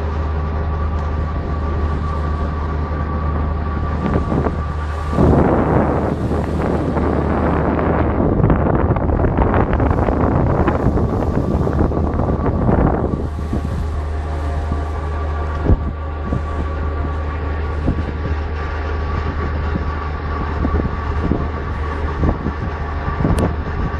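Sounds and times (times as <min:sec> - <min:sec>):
diesel engines droning: 0:00.0 - 0:23.9
wind on microphone: 0:00.0 - 0:23.9.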